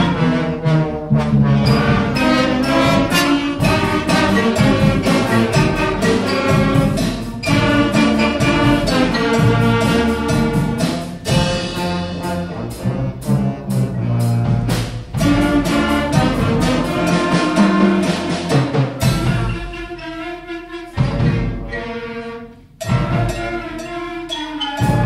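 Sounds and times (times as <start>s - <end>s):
brass and wind instruments: 0.0s - 25.0s
steady drum beat: 1.7s - 20.0s, 21.0s - 22.0s, 22.8s - 25.0s.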